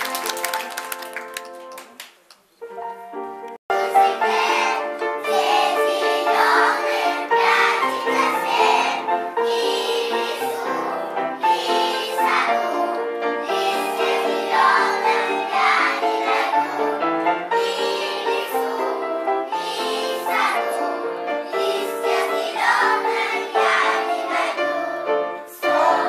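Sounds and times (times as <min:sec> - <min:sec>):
instrumental backing music: 0:00.0 - 0:26.0
children singing: 0:03.7 - 0:26.0.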